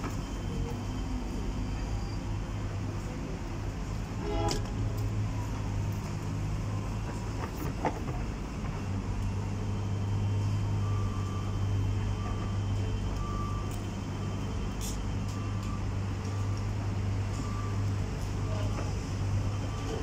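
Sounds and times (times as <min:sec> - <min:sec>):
excavator diesel engine drone: 0:00.0 - 0:20.0.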